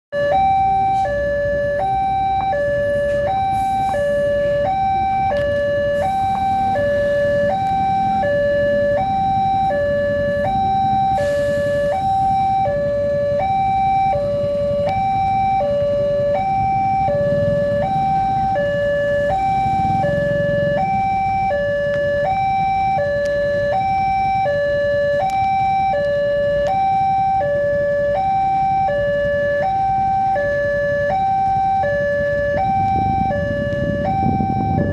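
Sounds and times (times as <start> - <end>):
level crossing two-tone alarm: 0.1 - 34.9.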